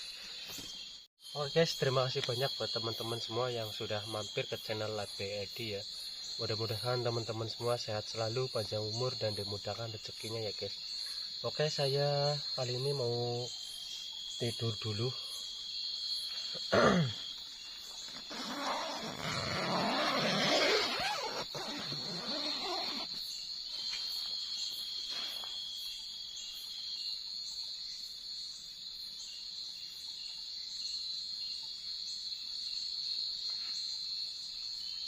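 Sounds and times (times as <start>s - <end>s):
faint insect chirp: 0.0s - 35.0s
insects trilling: 0.0s - 35.0s.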